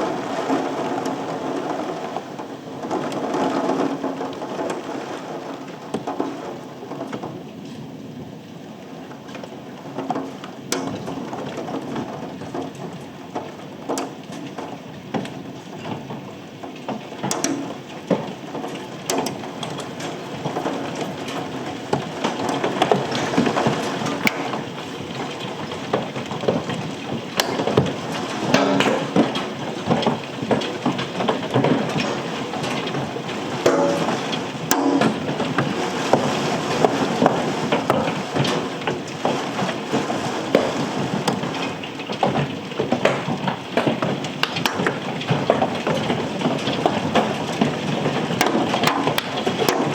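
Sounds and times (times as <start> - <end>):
hailstones clattering: 0.0 - 49.9
rain falling: 0.0 - 49.9.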